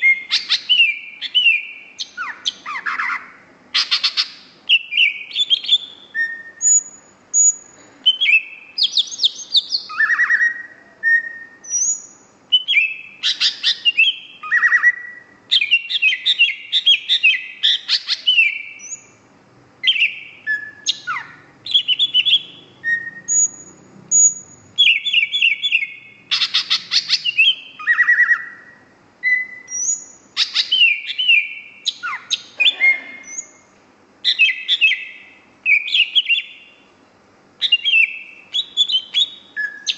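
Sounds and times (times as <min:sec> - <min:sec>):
bird singing whistled trills: 0:00.0 - 0:19.2, 0:19.8 - 0:36.9, 0:37.6 - 0:39.9.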